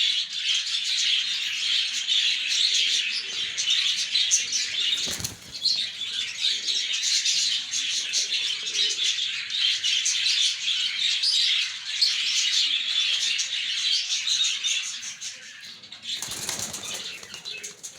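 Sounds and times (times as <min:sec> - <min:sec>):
small birds chirping: 0:00.3 - 0:17.9.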